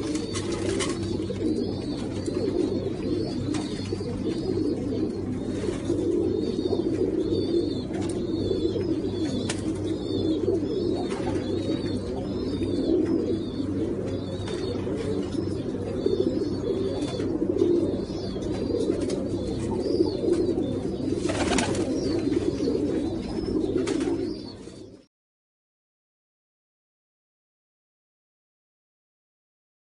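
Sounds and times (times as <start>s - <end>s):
pigeons cooing: 0.0s - 25.1s.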